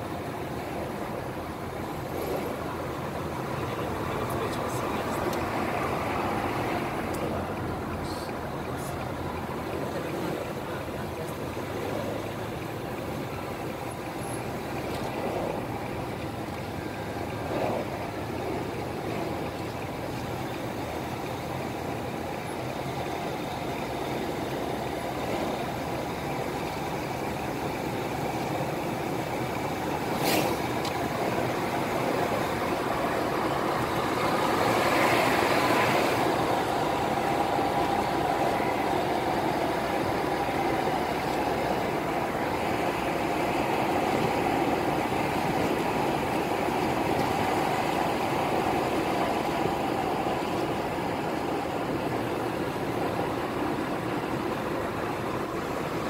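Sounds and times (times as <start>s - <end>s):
car engine and tyre noise: 0.0s - 56.0s
passing car: 0.0s - 56.0s.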